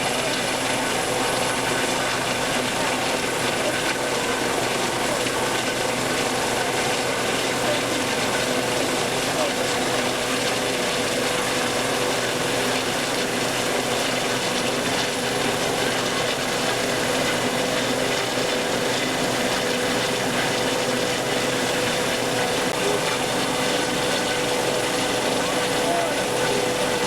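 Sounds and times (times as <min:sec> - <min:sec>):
machine humming: 0:00.0 - 0:27.0.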